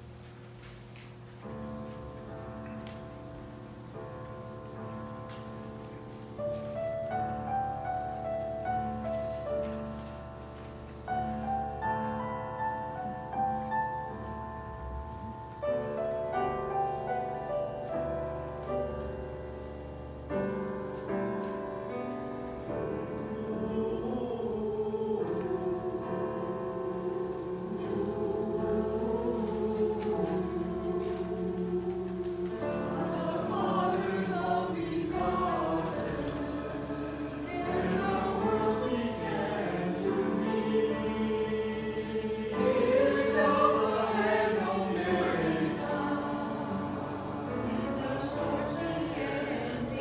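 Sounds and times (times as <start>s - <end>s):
piano notes: 0.0s - 50.0s
church choir singing: 1.4s - 50.0s.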